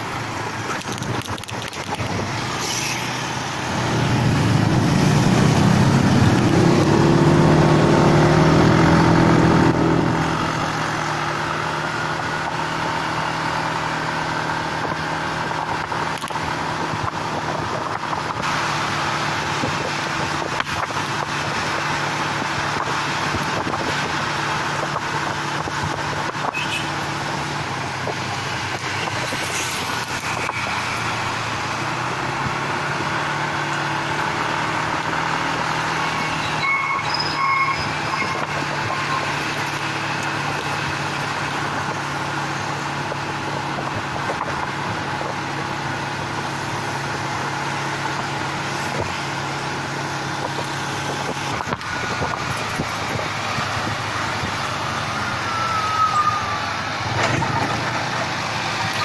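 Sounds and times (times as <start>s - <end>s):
vehicle engine running: 0.0s - 55.6s
wind and road noise: 0.0s - 59.0s.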